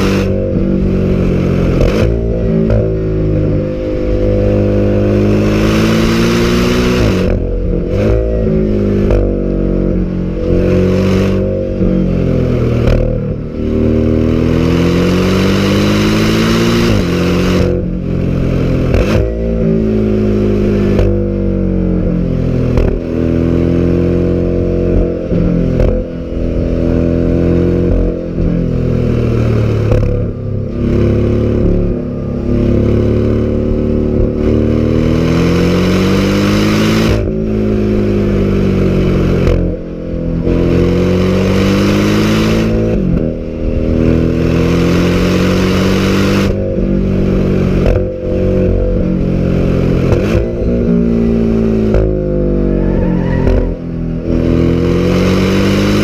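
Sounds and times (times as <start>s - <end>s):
sports car engine accelerating: 0.0s - 56.0s
wind and road noise: 0.0s - 56.0s.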